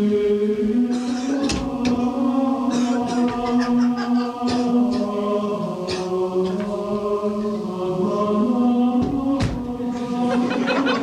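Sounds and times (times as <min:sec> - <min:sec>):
choir chanting held notes: 0:00.0 - 0:11.0.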